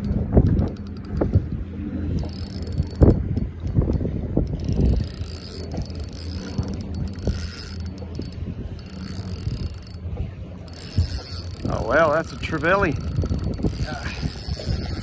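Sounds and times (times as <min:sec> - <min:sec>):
fishing reel cranking: 0:00.0 - 0:01.4, 0:02.1 - 0:10.1, 0:10.7 - 0:15.0.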